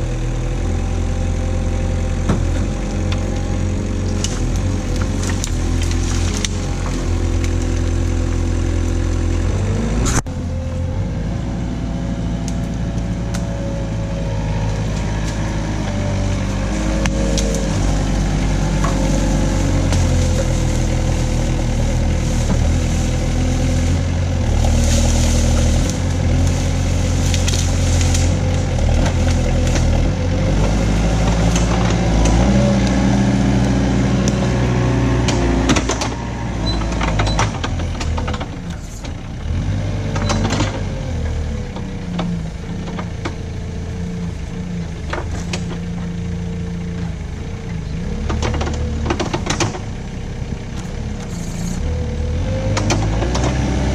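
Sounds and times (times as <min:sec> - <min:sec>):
loader engine under hydraulic load: 0:00.0 - 0:53.9.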